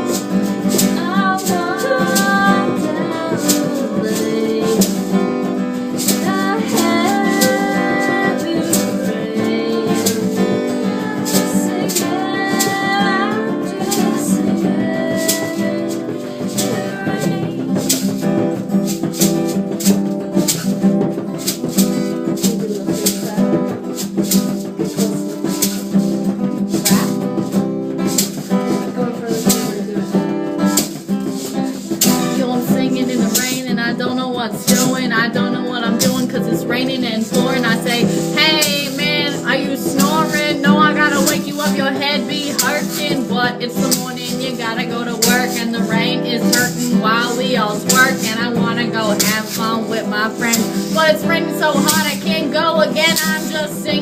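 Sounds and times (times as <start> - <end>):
guitar playing: 0.0 - 54.0
shaken percussion strokes: 0.0 - 54.0.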